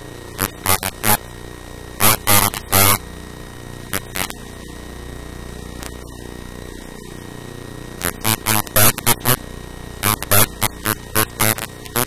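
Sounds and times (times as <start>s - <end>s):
electrical hum and buzz: 0.0s - 12.0s.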